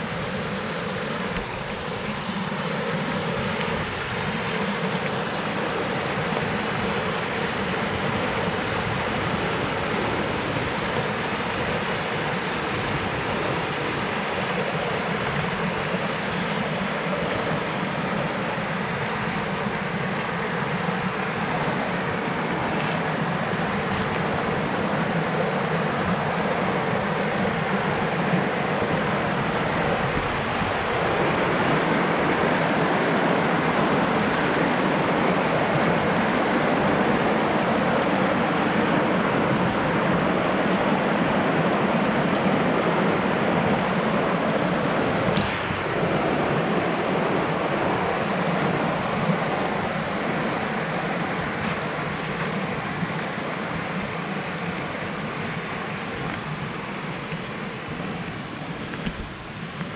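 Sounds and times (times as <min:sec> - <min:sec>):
creek rushing over rocks: 0:00.0 - 0:59.9.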